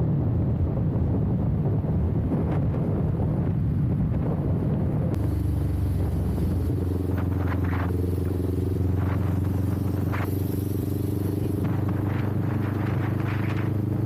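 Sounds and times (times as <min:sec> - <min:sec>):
wind buffeting microphone: 0:00.0 - 0:14.0
motorcycle engine steady tone: 0:00.1 - 0:14.0.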